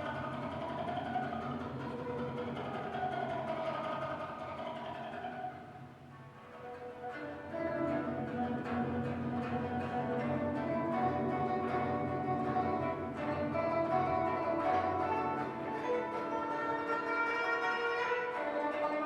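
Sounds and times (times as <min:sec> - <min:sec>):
plucked koto strings melody: 0:00.0 - 0:19.0.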